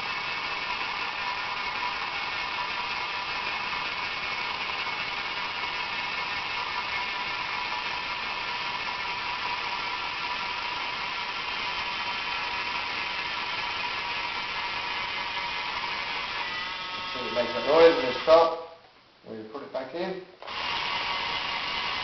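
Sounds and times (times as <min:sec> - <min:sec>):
toy gear motor whining: 0:00.0 - 0:18.6, 0:20.4 - 0:22.0.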